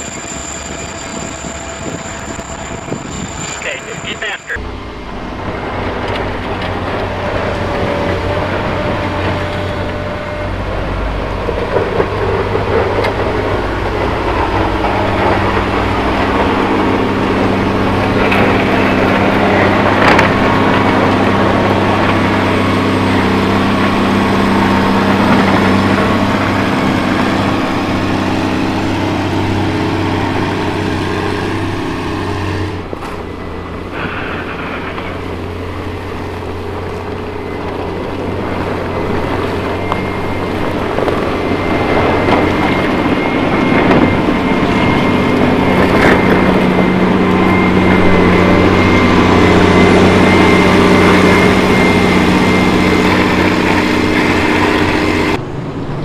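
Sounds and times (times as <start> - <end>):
diesel engine running: 0.0 - 56.0
blade and tyres hissing on wet road: 5.8 - 56.0.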